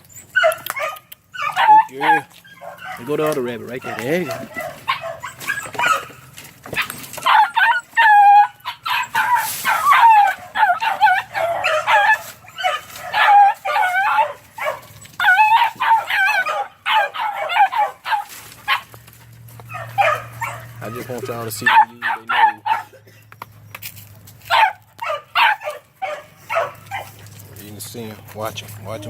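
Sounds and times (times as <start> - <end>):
puppies yipping and barking: 0.0 - 28.0.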